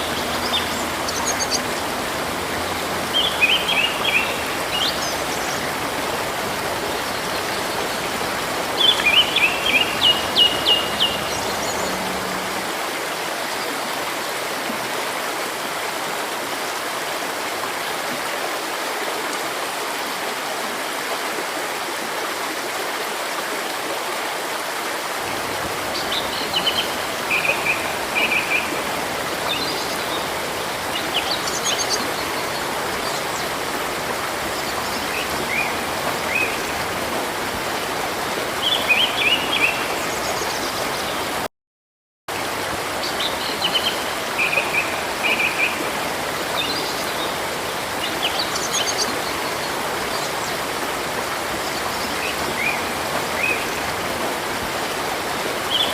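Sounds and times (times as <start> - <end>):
river rushing water: 0.0 - 41.5, 42.3 - 55.9.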